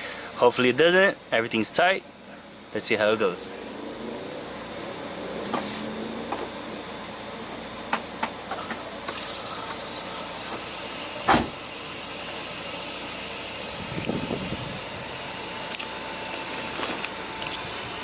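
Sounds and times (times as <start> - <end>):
electric fuel pump whine: 0.0 - 18.0.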